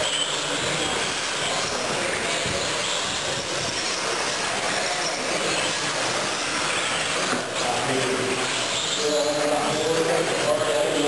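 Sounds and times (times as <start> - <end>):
rc truck motors whining: 0.0 - 11.0.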